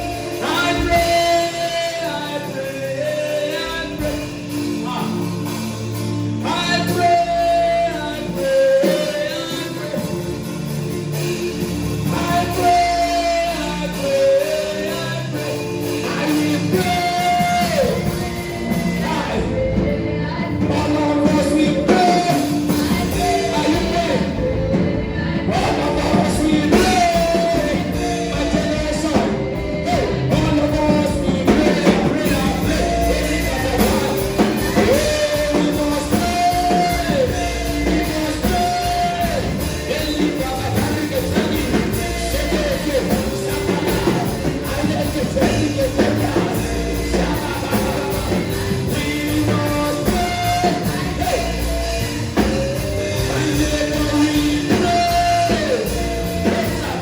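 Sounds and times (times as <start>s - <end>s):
band with bass line: 0.0s - 57.0s
voices singing: 0.0s - 57.0s.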